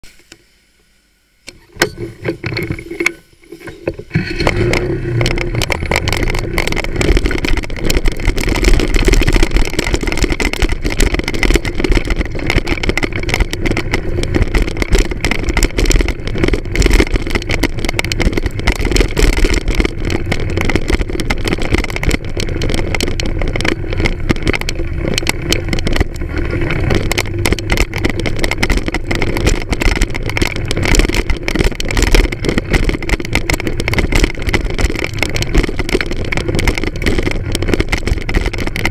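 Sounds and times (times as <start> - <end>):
camera jolting noise: 1.5 - 38.9
wind on microphone: 1.6 - 38.9
moped engine running: 4.1 - 38.9.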